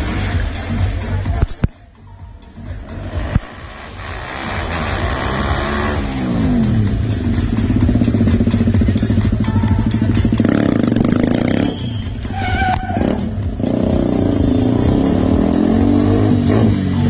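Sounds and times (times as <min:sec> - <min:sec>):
music playing: 0:00.0 - 0:17.0
motorcycle engine revving: 0:02.8 - 0:17.0.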